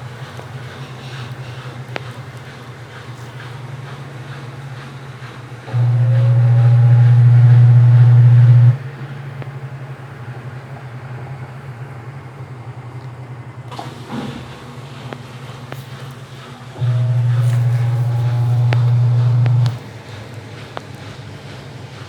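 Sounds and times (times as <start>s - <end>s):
washing machine motor humming: 0.0s - 22.0s.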